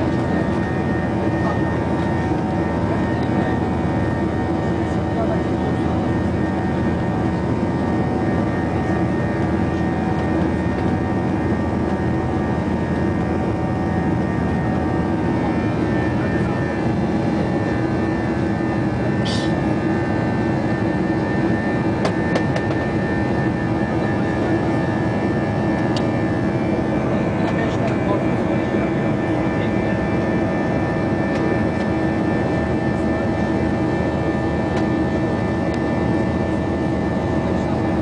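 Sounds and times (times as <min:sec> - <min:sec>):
jet engine drone in cabin: 0:00.0 - 0:38.0.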